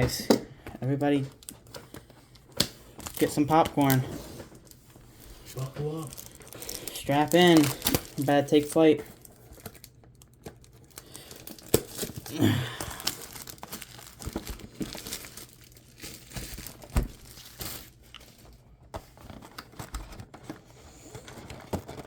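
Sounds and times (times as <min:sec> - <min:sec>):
plastic wrapping crinkling and tearing: 0:00.8 - 0:22.0.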